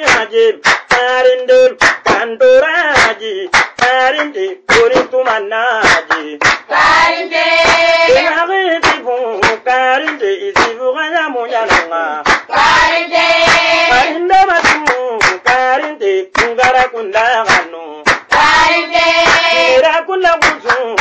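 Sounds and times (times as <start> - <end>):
sharp hand claps: 0.0 - 6.7, 7.6 - 10.8, 11.6 - 21.0.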